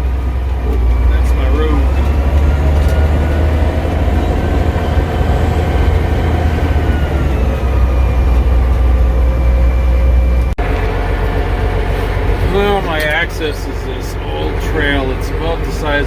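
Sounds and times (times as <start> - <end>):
bulldozer diesel engine droning: 0.0 - 16.0
engine whine: 0.0 - 16.0.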